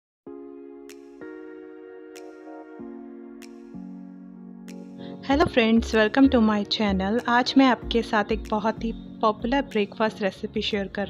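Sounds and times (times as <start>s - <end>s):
background music sustained chords: 0.3s - 11.0s.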